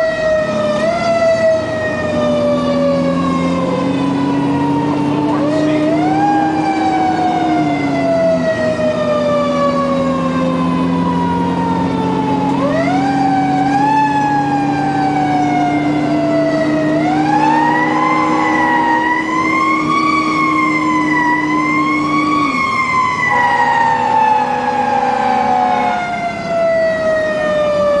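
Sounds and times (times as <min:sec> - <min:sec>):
fire engine siren wailing: 0:00.0 - 0:28.0.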